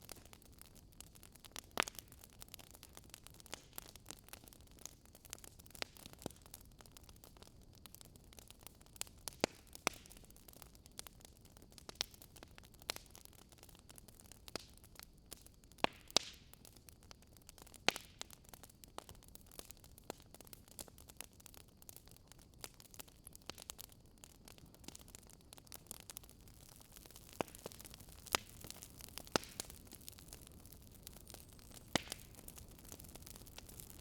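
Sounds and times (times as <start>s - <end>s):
faint steady hiss: 0.0s - 34.0s
wood fire crackling: 0.0s - 34.0s.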